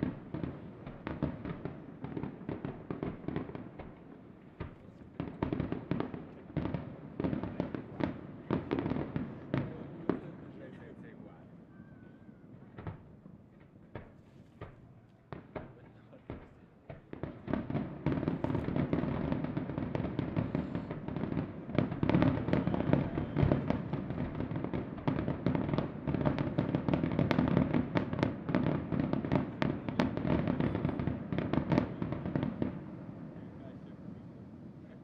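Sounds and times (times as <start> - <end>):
fireworks bangs and crackling: 0.0 - 11.6, 12.2 - 35.0.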